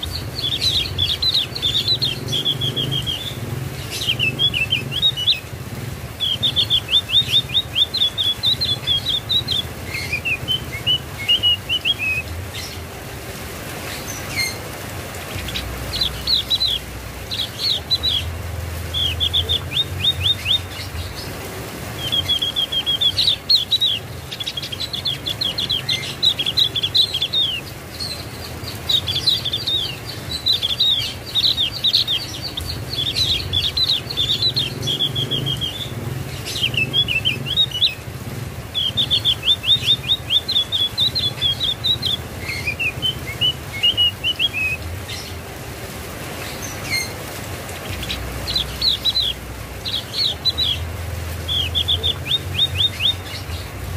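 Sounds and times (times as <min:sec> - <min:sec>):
bird chirping song: 0:00.0 - 0:13.0, 0:13.8 - 0:45.6, 0:46.2 - 0:53.9.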